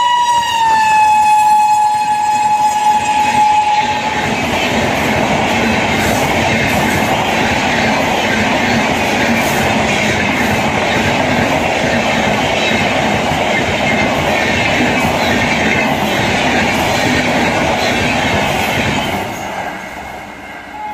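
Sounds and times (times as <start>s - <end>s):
train wheels rushing on rail: 0.0s - 20.9s.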